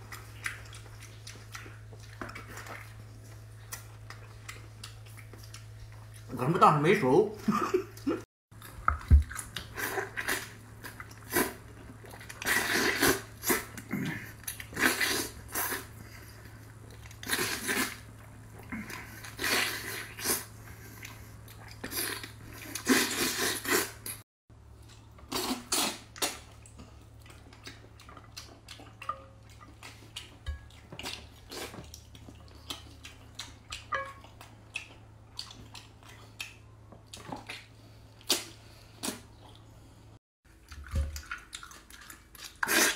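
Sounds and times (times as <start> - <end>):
wet chewing and slurping: 0.0 - 6.3, 8.5 - 24.2, 24.8 - 42.9.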